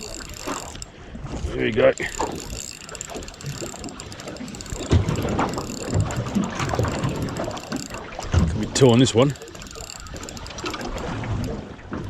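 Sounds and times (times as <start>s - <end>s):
fishing reel clicking whirr: 0.0s - 11.8s.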